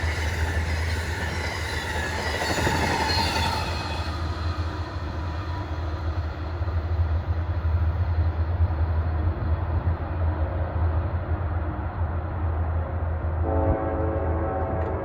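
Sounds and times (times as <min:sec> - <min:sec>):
passenger train rolling by: 0:00.0 - 0:15.0.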